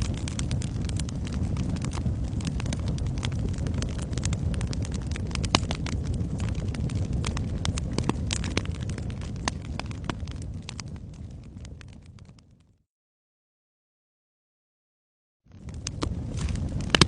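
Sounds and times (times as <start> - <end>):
wood fire crackling: 0.0 - 12.7, 15.5 - 17.0.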